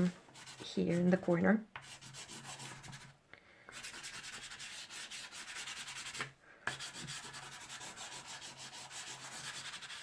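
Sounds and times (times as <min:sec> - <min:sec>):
pastel scratching on paper: 0:00.3 - 0:01.0, 0:01.8 - 0:10.0.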